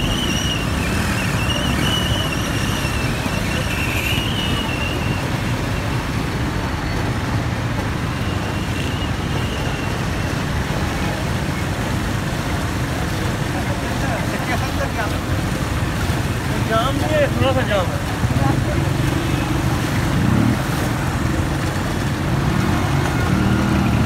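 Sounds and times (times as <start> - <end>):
traffic through floodwater: 0.0 - 24.0.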